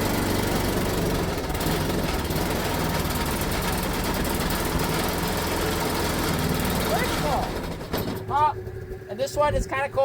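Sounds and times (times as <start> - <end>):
snowblower engine running: 0.0 - 9.8.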